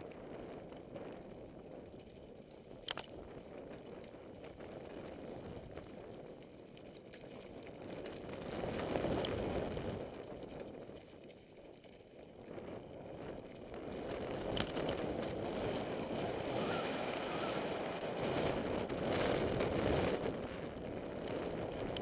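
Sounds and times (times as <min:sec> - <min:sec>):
bike rattling: 0:00.0 - 0:22.0
bike tyres crunching over stones: 0:00.1 - 0:22.0.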